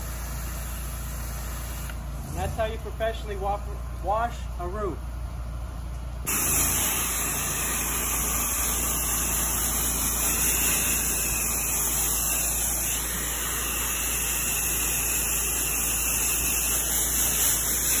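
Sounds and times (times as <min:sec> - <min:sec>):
pressure washer water jet hissing: 0:00.0 - 0:03.4, 0:06.3 - 0:18.0.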